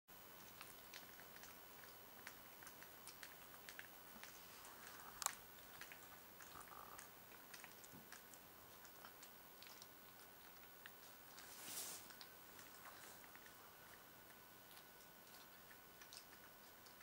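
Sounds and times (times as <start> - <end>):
puppies chewing wet food: 0.2 - 17.0.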